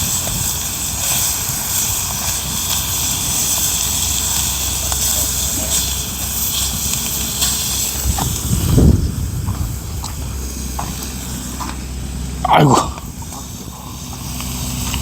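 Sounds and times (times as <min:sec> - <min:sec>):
fish sizzling on a griddle: 0:00.0 - 0:12.4, 0:13.0 - 0:15.0.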